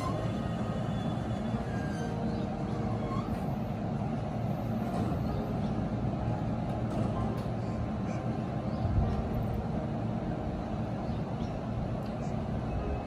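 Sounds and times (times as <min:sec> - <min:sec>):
electric train low hum: 0:00.0 - 0:13.0.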